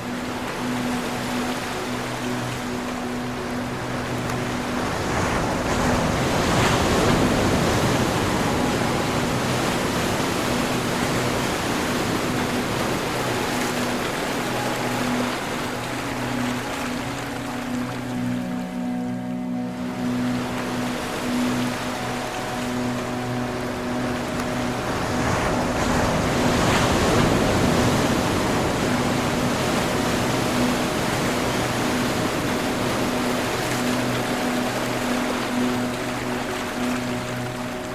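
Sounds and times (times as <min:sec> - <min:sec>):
ocean surf washing in: 0:00.0 - 0:37.9.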